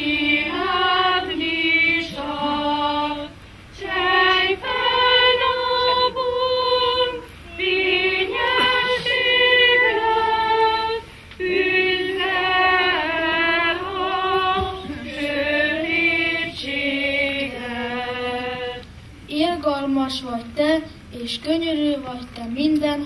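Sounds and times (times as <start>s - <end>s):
choir singing slow song: 0.0s - 19.3s.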